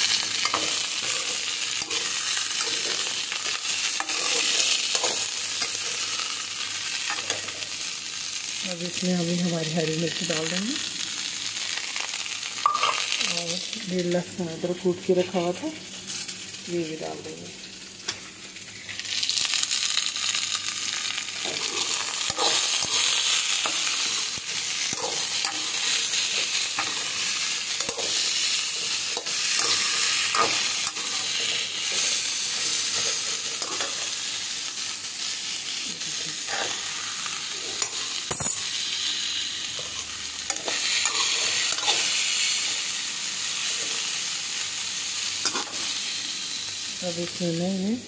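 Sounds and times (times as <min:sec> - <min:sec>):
vegetables sizzling in hot oil: 0:00.0 - 0:48.0.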